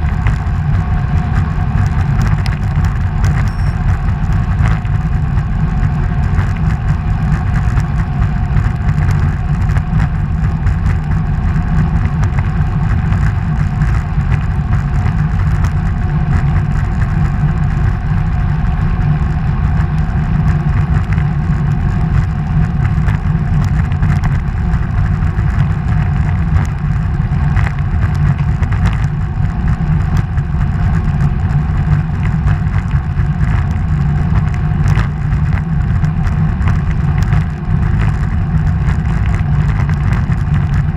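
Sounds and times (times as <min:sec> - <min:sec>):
wind and road noise in tunnel: 0:00.0 - 0:40.9.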